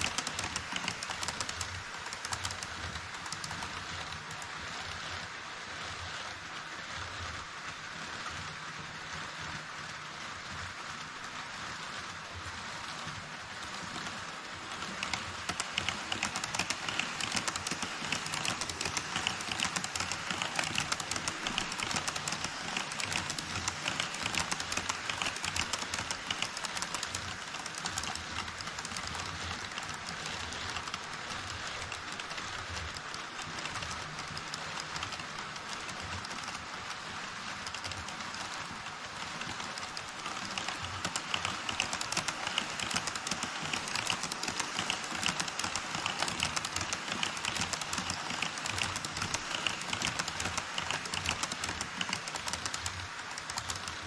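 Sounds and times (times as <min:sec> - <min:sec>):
model train wheels clattering: 0:00.0 - 0:54.0.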